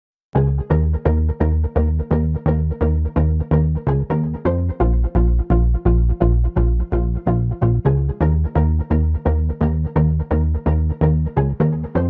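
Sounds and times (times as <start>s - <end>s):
music with pulsing bass: 0.4s - 12.0s.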